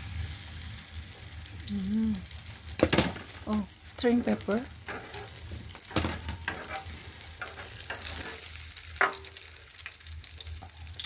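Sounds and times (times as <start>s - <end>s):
fish frying in hot oil: 0.0s - 11.0s
oil crackles: 0.6s - 11.0s.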